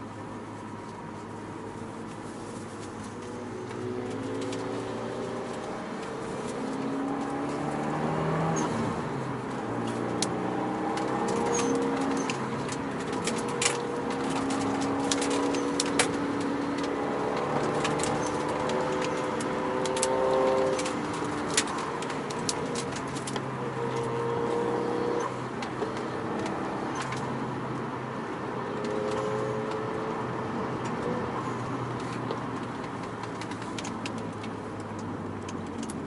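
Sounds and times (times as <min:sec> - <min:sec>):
car engine running at low revs: 0:00.0 - 0:36.0.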